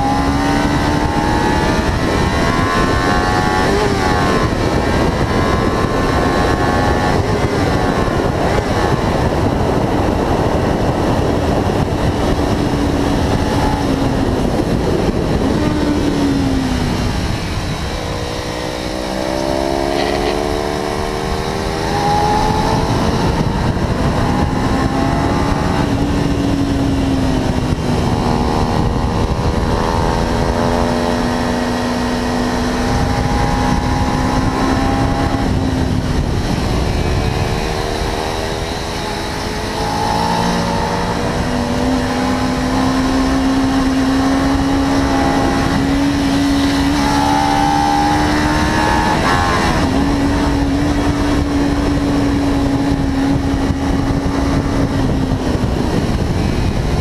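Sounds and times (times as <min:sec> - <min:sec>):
heavy wind noise: 0:00.0 - 0:57.0
motorcycle engine at high revs: 0:00.0 - 0:57.0.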